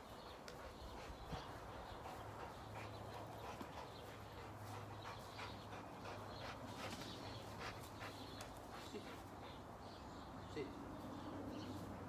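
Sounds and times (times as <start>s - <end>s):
soft irregular dog movement noises: 0.0s - 12.0s.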